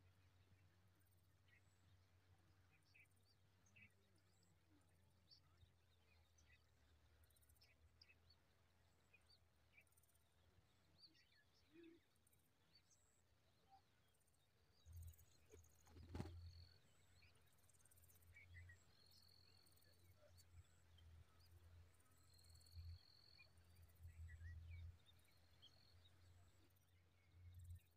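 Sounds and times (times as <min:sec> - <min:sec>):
faint bird chirps: 0:00.0 - 0:27.9.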